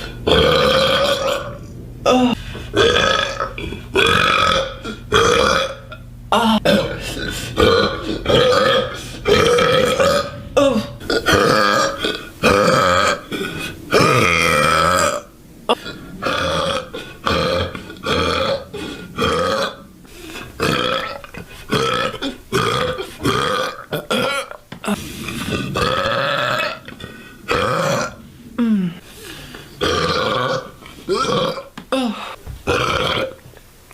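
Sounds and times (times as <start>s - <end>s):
woman burping: 0.0s - 19.8s, 20.6s - 29.0s, 29.8s - 33.4s.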